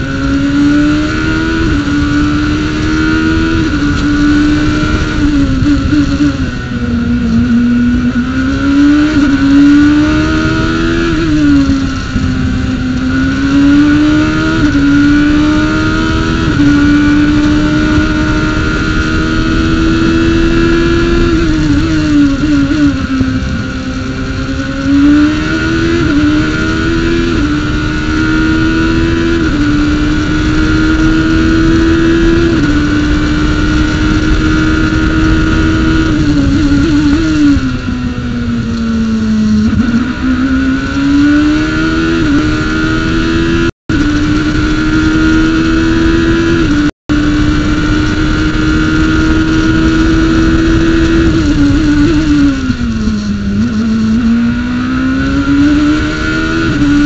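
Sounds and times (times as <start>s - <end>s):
high whine: 0.0s - 57.0s
race car engine revving: 0.0s - 57.0s.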